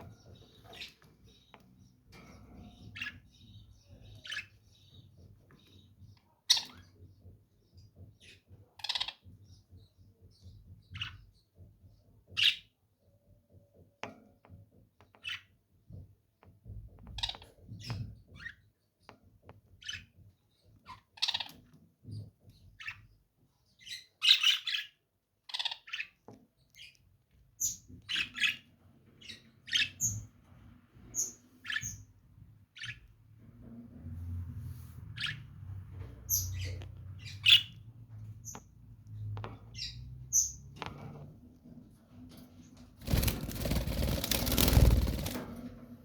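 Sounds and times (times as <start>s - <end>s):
lovebirds chirping and squawking: 0.0s - 12.8s, 16.6s - 18.8s, 19.6s - 33.4s, 35.0s - 38.8s, 39.5s - 41.3s, 41.9s - 45.4s.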